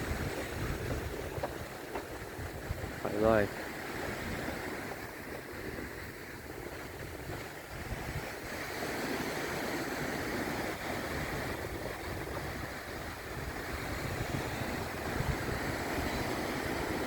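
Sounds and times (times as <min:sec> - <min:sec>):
waves washing onto sandy beach: 0:00.0 - 0:17.0.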